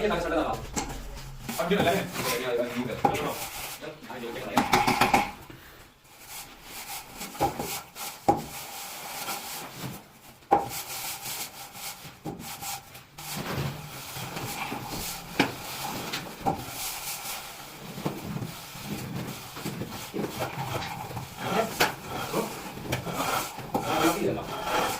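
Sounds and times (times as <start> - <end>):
rubbing and scraping by hand: 0.0 - 5.2, 6.1 - 24.9.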